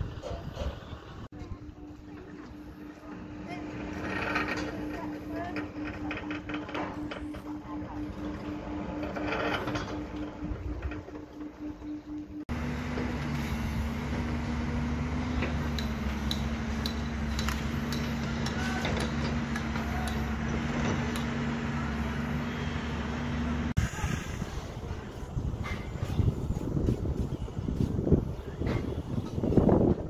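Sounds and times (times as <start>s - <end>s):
machinery drone: 1.0s - 30.0s.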